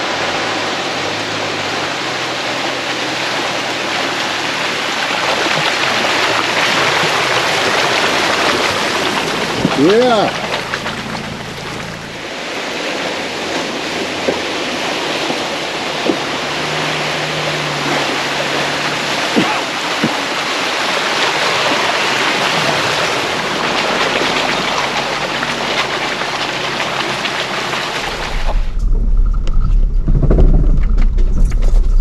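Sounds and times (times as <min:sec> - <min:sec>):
creek water rushing: 0:00.0 - 0:28.8.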